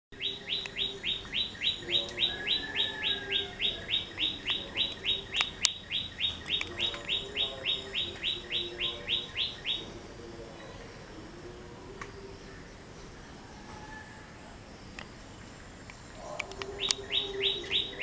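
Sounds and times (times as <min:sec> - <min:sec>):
bird chirping: 0:00.1 - 0:18.0.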